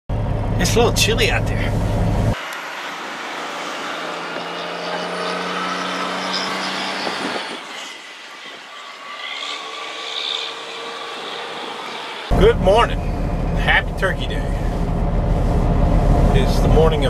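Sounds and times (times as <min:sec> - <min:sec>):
passing traffic hiss and hum: 0:00.2 - 0:17.0.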